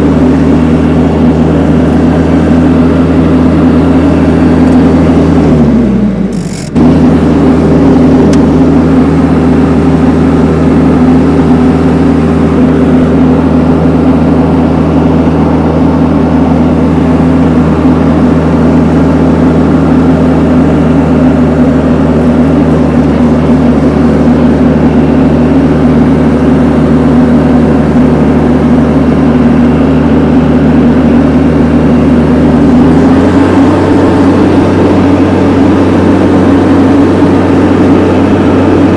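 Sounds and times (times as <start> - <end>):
vehicle engine running under load: 0.0 - 38.9.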